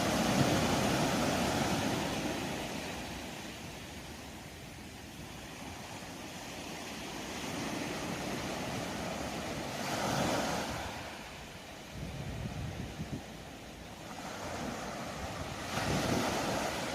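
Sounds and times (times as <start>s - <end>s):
sea waves on shore: 0.0s - 16.9s.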